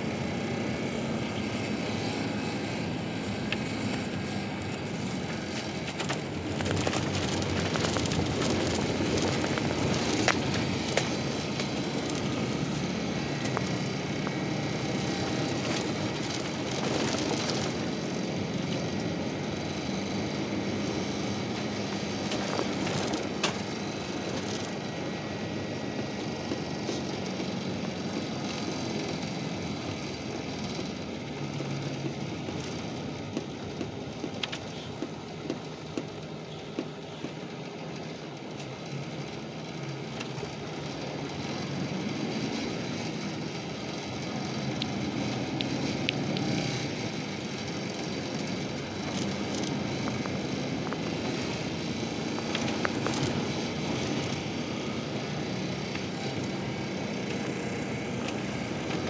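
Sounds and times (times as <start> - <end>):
bus engine and tyre noise: 0.0 - 59.0.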